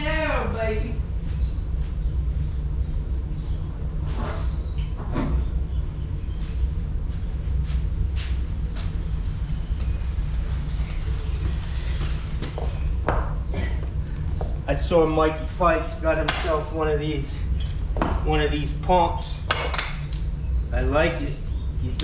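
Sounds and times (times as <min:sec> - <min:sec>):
faint high whine: 0:00.0 - 0:19.4.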